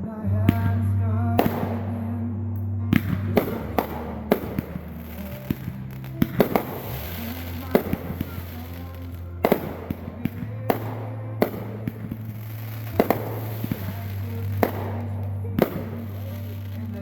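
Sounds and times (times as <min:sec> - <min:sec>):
background music with low notes: 0:00.0 - 0:17.0
fireworks bangs: 0:00.5 - 0:02.3, 0:02.9 - 0:17.0.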